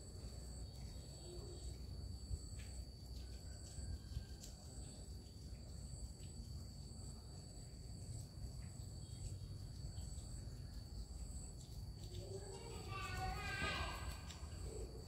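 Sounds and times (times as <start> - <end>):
insect calling high-pitched whine: 0.0 - 15.0.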